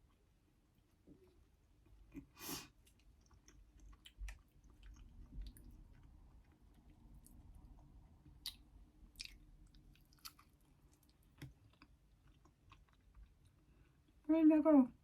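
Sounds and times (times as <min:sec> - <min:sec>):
faint chewing: 0:00.0 - 0:14.3.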